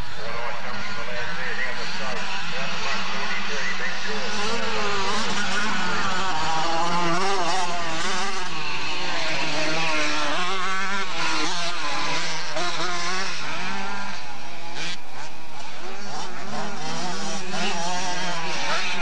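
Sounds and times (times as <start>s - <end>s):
motocross motorcycle engines revving: 0.0s - 19.0s.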